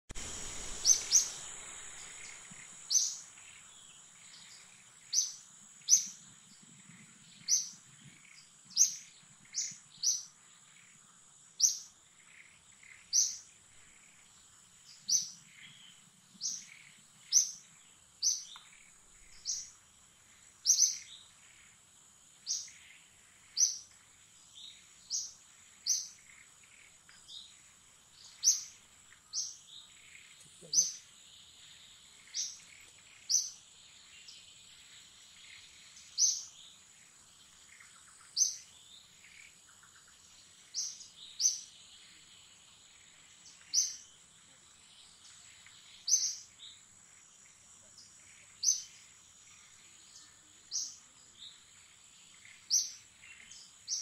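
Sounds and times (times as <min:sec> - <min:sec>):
insect drone: 0:00.1 - 0:54.0
bird chirping: 0:00.2 - 0:54.0.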